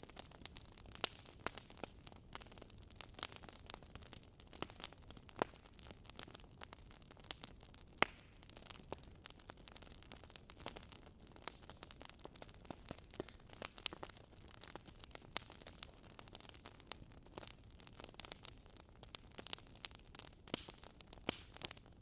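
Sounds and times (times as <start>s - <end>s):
firewood crackling: 0.0s - 22.0s.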